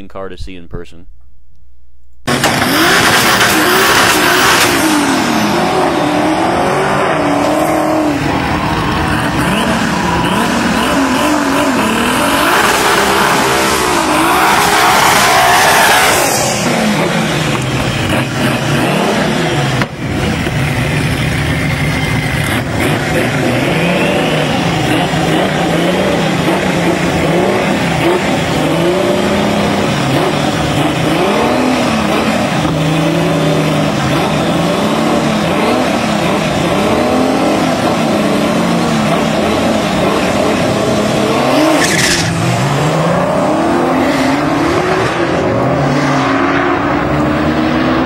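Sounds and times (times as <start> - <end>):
car engines revving hard: 2.3 - 48.0.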